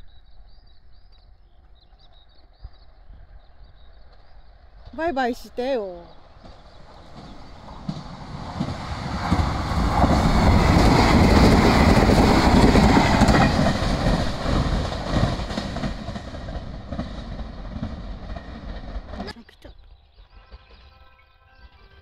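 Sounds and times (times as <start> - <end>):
train passing with wheel clatter: 0.1 - 22.0.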